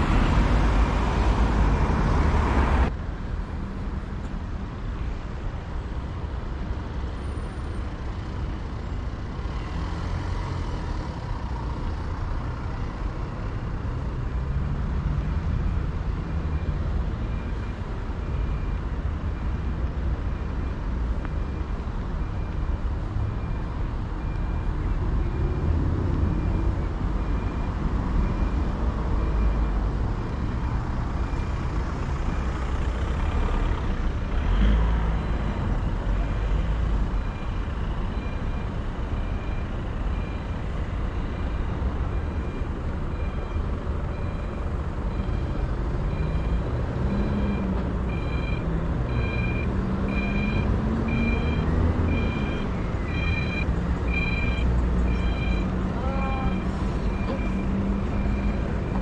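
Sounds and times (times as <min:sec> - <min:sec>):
city traffic rumble: 0:00.0 - 0:59.0
pedestrian crossing beeping: 0:05.0 - 0:59.0.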